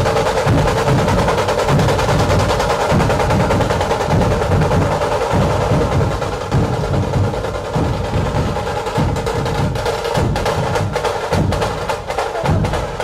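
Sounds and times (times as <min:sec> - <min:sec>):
deep drum beat: 0:00.0 - 0:13.0
fast rattle of drum strokes: 0:00.0 - 0:13.0.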